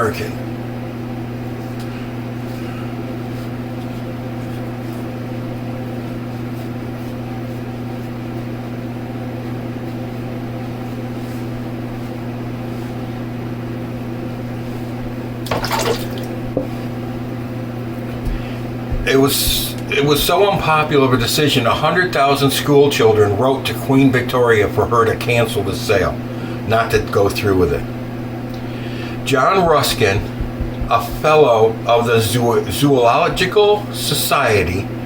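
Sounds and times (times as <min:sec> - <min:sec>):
electric fan humming: 0:00.0 - 0:35.0.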